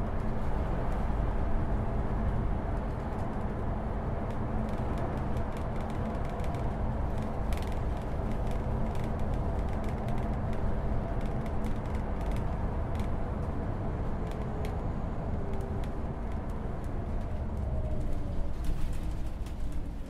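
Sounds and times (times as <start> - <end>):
bus body rattling and creaking: 0.0 - 20.0
bus engine and road rumble: 0.0 - 20.0.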